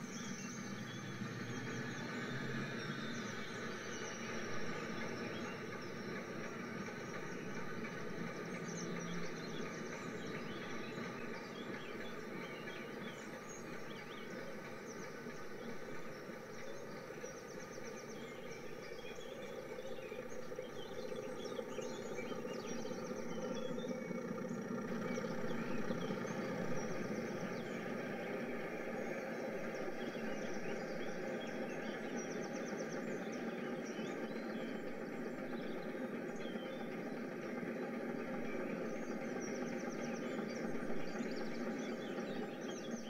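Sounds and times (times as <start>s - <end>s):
birds chirping and trilling: 0.0s - 43.0s
rail traffic rumble: 0.0s - 43.0s.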